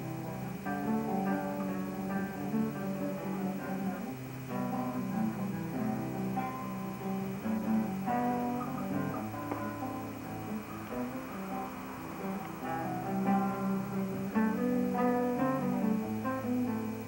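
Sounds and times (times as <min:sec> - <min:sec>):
fingerstyle classical guitar: 0:00.0 - 0:17.0.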